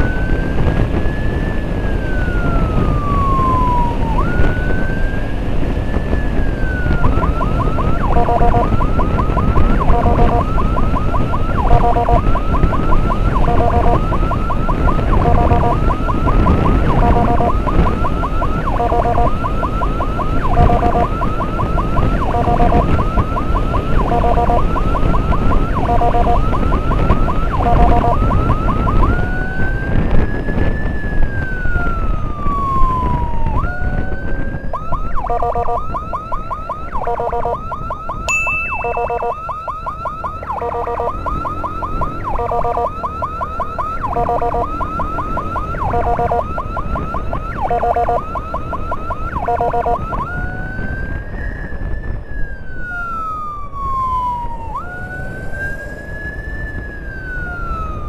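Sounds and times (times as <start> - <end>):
emergency siren wailing and yelping: 0.0 - 58.0
wind and road rumble: 0.0 - 58.0.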